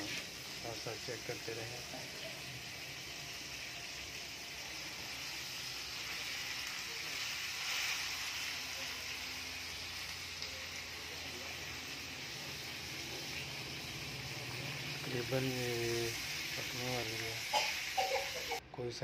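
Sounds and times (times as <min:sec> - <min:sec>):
fish sizzling in oil: 0:00.0 - 0:18.6.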